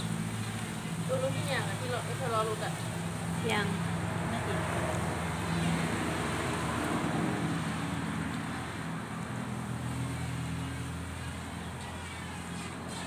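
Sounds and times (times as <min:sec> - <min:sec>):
low engine hum: 0:00.0 - 0:13.0
rushing background noise: 0:00.0 - 0:13.0.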